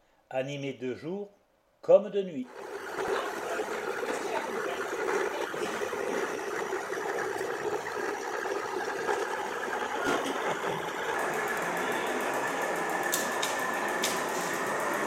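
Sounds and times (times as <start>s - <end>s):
model railcar motor hum: 2.5s - 15.0s.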